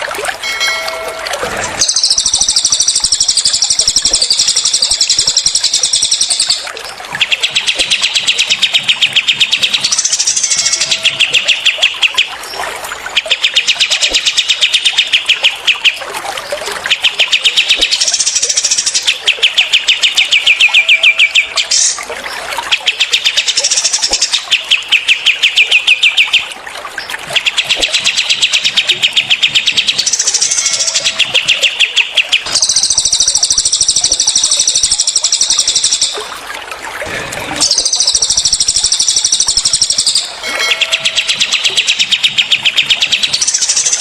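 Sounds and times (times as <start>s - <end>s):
songbirds rattling trills: 0.0s - 44.0s.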